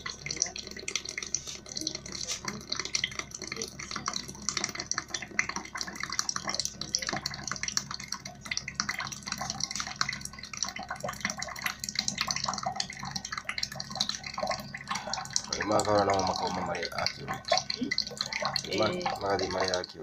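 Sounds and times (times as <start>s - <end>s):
drips and small splashes: 0.0s - 20.0s
low steady hum: 0.0s - 20.0s
oil pouring into plastic cup: 0.0s - 20.0s.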